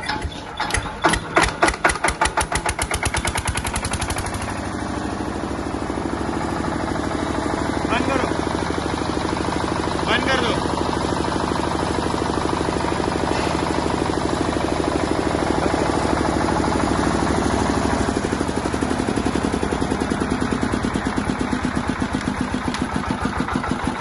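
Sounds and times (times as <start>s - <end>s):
diesel generator engine running: 0.0s - 24.0s.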